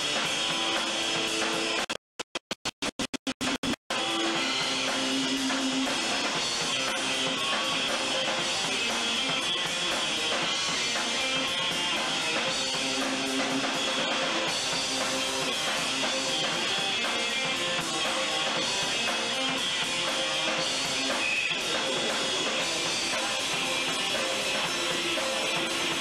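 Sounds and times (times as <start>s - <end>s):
electric guitars: 0.0s - 1.8s, 3.9s - 26.0s
drum kit: 0.0s - 26.0s.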